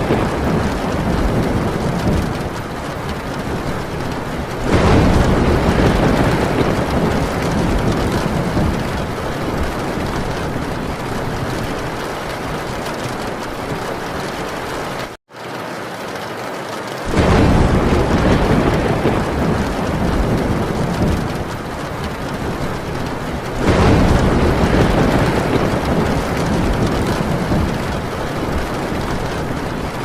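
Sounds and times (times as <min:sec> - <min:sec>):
thunder rolling: 0:00.0 - 0:15.2, 0:17.0 - 0:30.0
heavy rain on a tin roof: 0:00.0 - 0:30.0.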